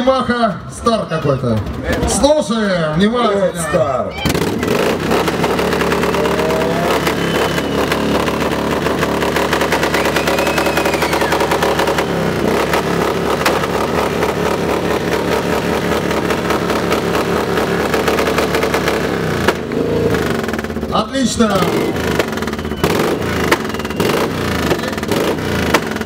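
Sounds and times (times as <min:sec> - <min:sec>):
motorcycle engine revving hard: 0:04.2 - 0:26.0.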